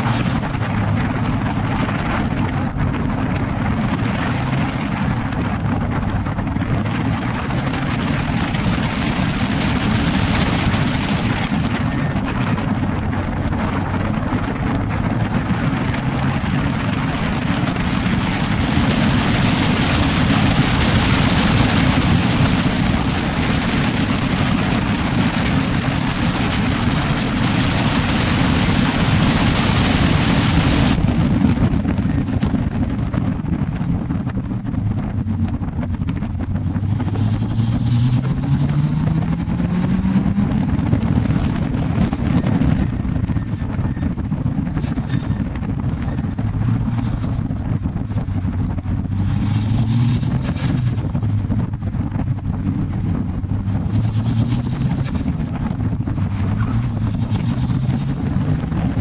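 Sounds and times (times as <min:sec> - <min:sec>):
car engine running hard: 0:00.0 - 0:59.0
wind rush on microphone: 0:00.0 - 0:59.0.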